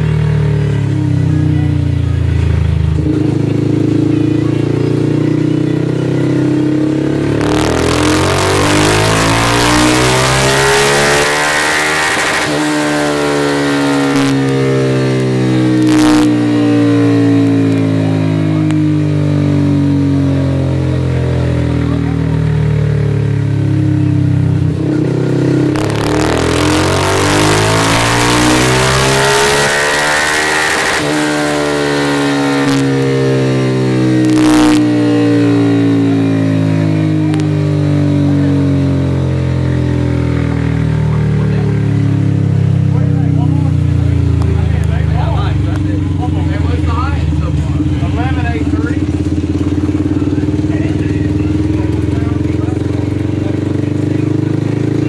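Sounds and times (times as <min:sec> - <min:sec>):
motorcycle engine revving on dyno: 0:00.0 - 0:55.0.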